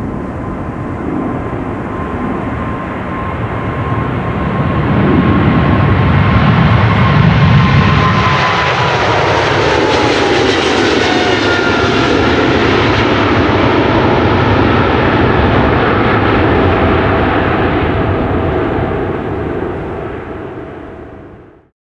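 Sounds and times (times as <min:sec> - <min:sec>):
jet engines roaring past: 0:00.0 - 0:21.7.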